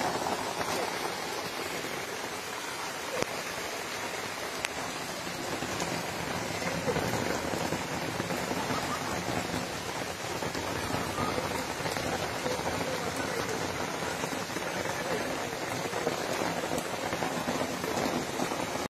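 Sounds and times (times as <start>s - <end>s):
heavy rain: 0.0s - 18.9s
rushing river water: 0.0s - 18.9s.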